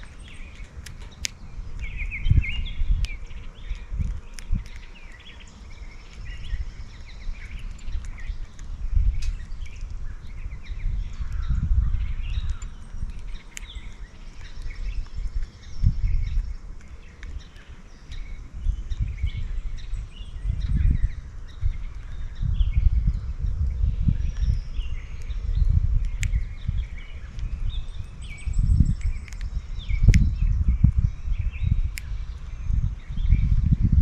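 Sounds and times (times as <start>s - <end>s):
songbirds chirping: 0.0s - 34.0s
uneven low rumble: 0.0s - 34.0s.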